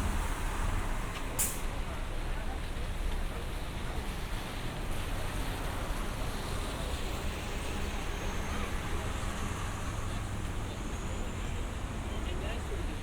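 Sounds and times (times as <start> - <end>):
passing cars and buses: 0.0 - 13.0.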